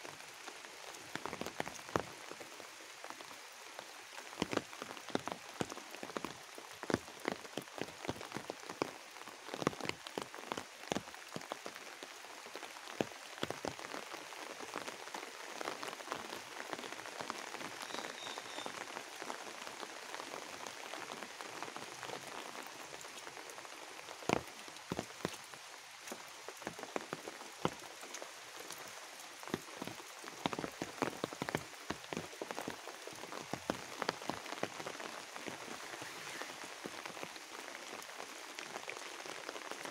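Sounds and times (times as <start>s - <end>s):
raindrops pattering close by: 0.0s - 39.9s
steady rain hiss: 0.0s - 39.9s.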